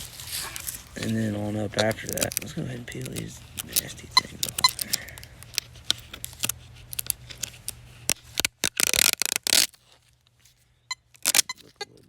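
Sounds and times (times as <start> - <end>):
plastic tearing and rustling: 0.0 - 12.0
plastic crackling and clicking: 0.6 - 10.4, 11.1 - 12.0.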